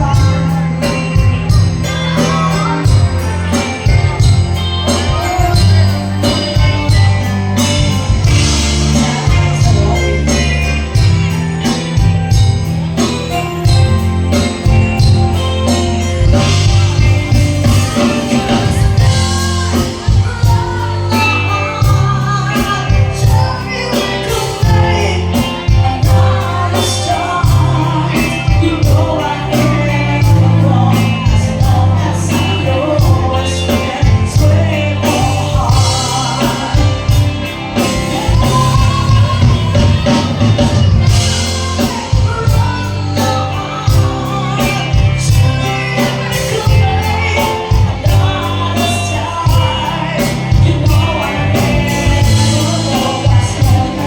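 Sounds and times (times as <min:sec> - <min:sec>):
bass line: 0:00.0 - 0:54.0
person singing: 0:00.0 - 0:54.0
steady drum beat: 0:00.0 - 0:54.0.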